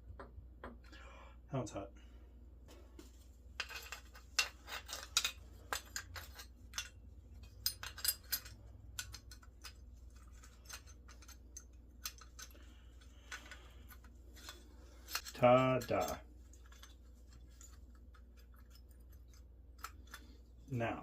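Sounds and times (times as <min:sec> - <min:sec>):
small metal parts clinking: 0:03.6 - 0:20.7.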